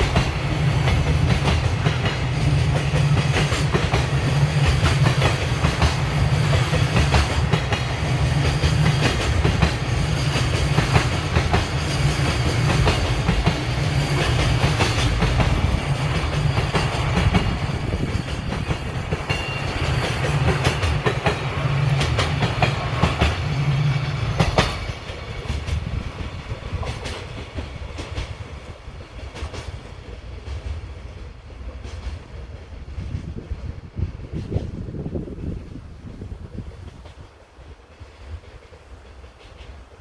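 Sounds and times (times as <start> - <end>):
wheels clacking over rail joints: 0.0 - 32.7
freight train rumbling past: 0.0 - 40.0.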